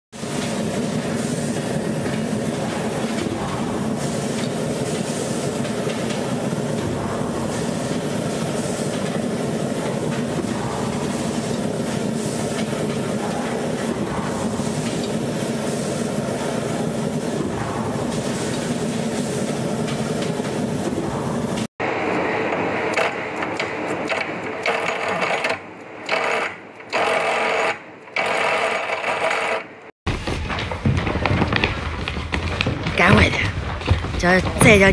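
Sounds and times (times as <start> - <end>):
geared metalworking machine whirring: 0.1 - 29.9
forging press humming: 0.2 - 34.9.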